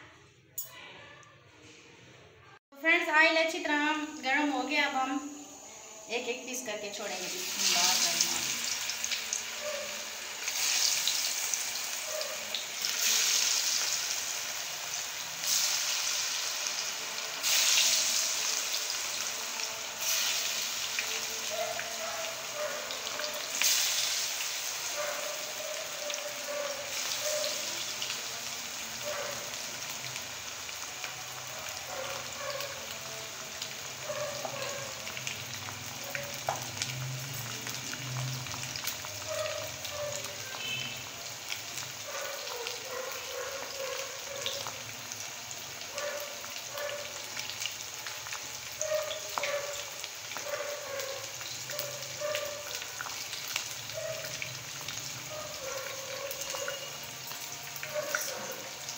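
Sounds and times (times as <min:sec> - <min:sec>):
deep-frying sizzle: 0:03.5 - 0:58.9.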